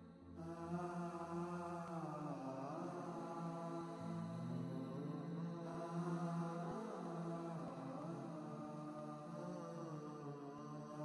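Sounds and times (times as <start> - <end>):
slow sustained background music: 0.0 - 11.0.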